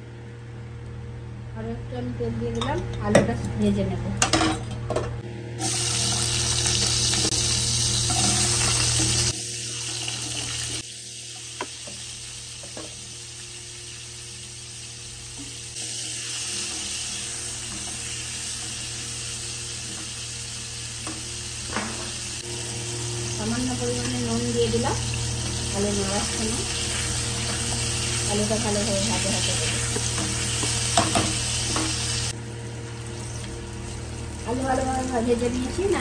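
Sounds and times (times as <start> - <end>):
potatoes sizzling in hot oil: 5.6 - 36.0.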